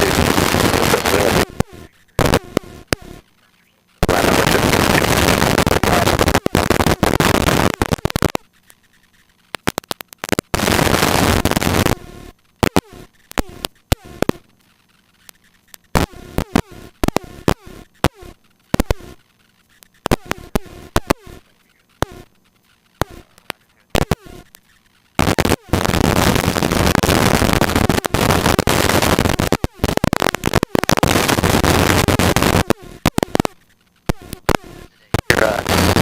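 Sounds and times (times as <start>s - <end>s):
radio clicks and crackles: 0.0s - 36.0s
radio static hiss: 0.0s - 36.0s.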